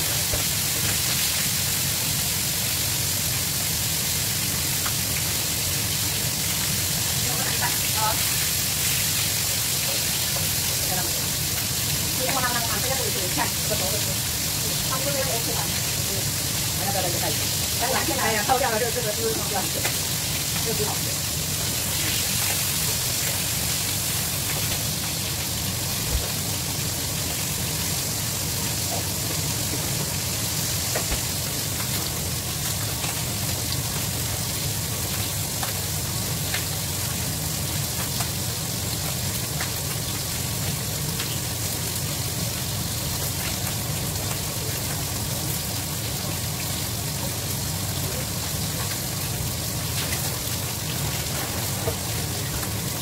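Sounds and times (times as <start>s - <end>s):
meat sizzling in frying pan: 0.0s - 53.0s.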